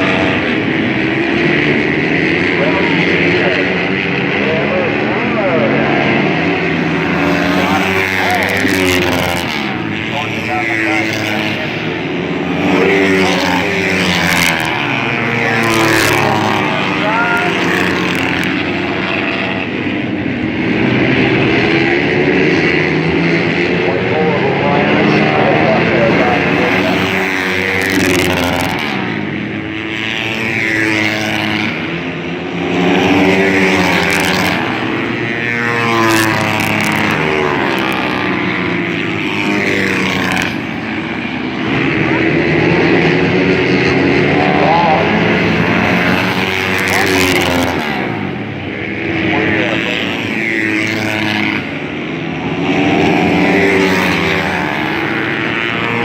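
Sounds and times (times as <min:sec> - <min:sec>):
dirt bike engines racing: 0:00.0 - 0:56.0.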